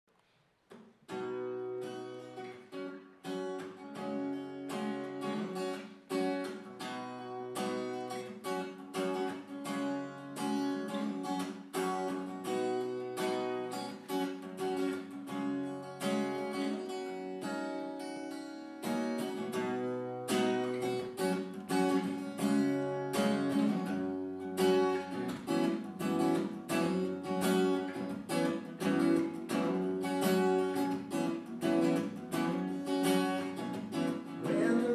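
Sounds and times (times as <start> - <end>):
acoustic guitar playing: 0.6 - 34.9.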